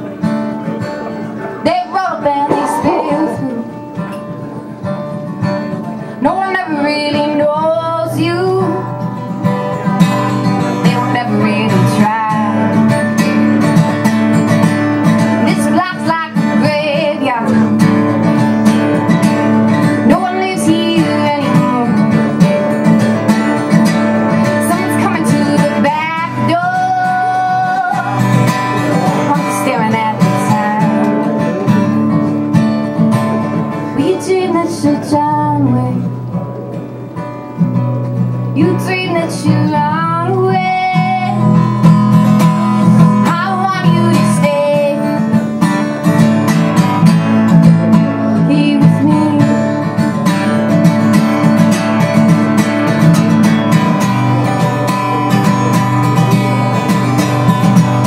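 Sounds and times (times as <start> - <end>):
strummed acoustic guitar: 0.0 - 58.0
woman singing folk song: 1.6 - 4.0, 5.5 - 36.5, 38.2 - 58.0.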